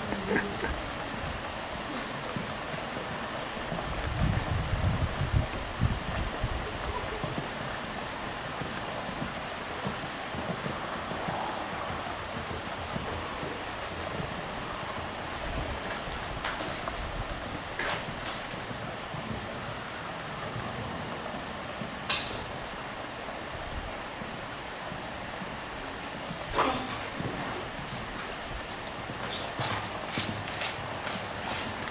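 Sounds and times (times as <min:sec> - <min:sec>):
steady pouring rain: 0:00.0 - 0:31.9.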